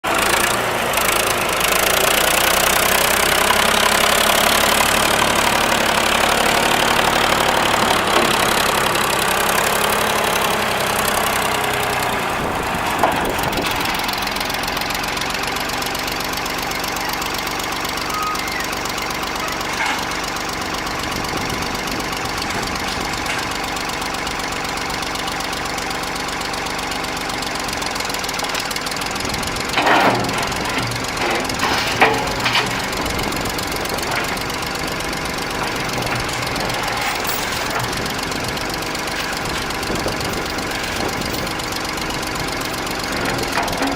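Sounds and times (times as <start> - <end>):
backhoe engine running: 0.0 - 43.9.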